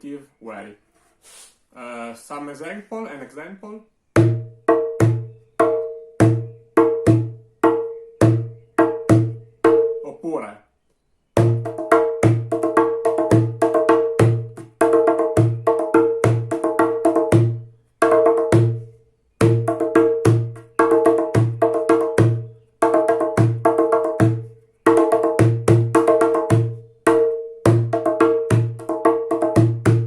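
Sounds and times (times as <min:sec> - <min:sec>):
djembe hand drum rhythm: 0:04.2 - 0:10.0, 0:11.4 - 0:30.0.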